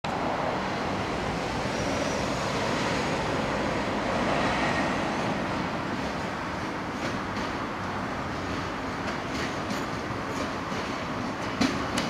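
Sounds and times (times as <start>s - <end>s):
electric train rumbling: 0.1s - 12.0s
faint train squeals: 1.4s - 12.0s.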